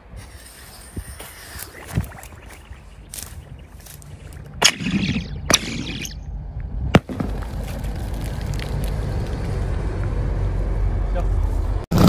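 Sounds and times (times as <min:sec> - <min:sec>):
low rumble: 0:02.1 - 0:11.8.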